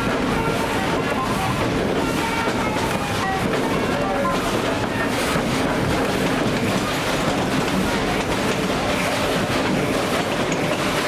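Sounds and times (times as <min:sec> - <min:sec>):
train wheels clacking on rails: 0:00.0 - 0:11.0.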